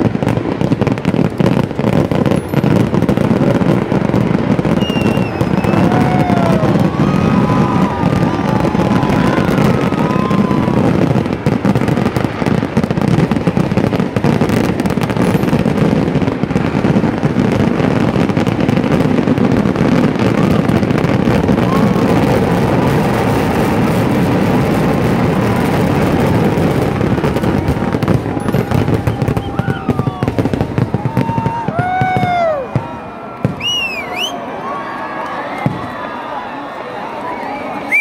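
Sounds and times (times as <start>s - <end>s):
fireworks barrage rumble and crackle: 0.0s - 38.0s.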